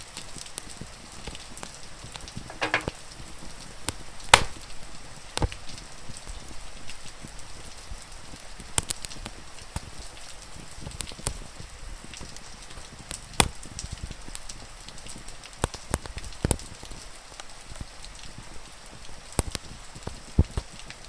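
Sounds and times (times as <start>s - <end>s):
wood fire crackling: 0.0s - 17.0s, 17.7s - 21.0s.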